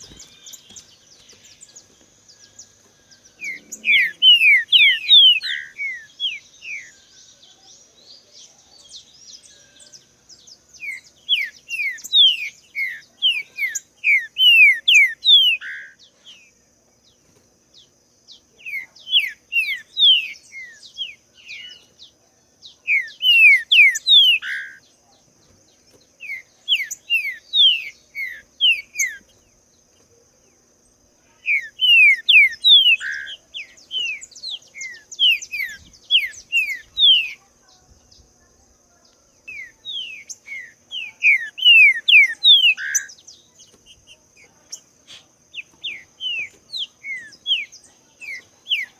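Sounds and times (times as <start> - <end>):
bird whistled song: 0.0 - 16.5, 18.3 - 24.9, 25.9 - 29.5, 31.3 - 38.3, 38.9 - 48.9.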